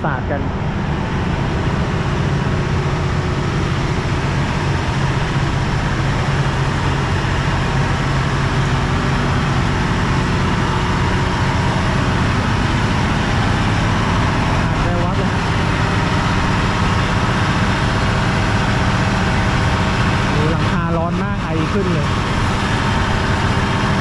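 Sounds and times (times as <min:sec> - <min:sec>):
diesel railcar engine idling: 0:00.0 - 0:24.0.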